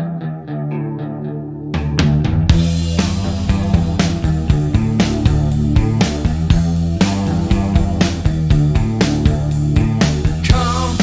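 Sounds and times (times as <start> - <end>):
rock music with guitar and bass: 0.0 - 11.0.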